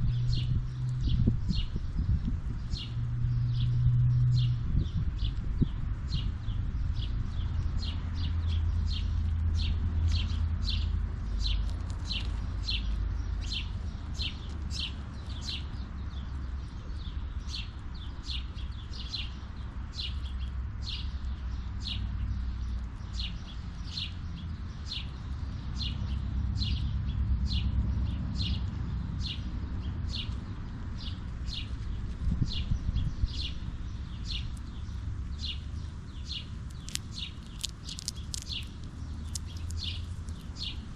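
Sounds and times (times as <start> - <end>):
steady low rumble: 0.0 - 18.1, 22.4 - 40.9
songbird chirping: 0.0 - 40.9.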